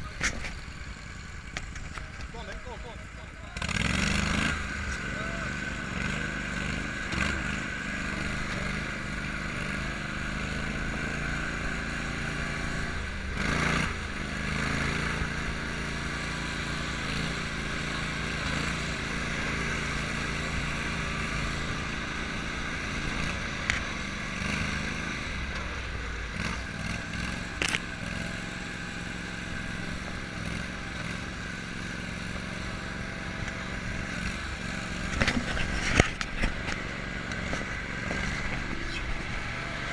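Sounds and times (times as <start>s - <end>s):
small motorbike running: 0.0s - 39.9s.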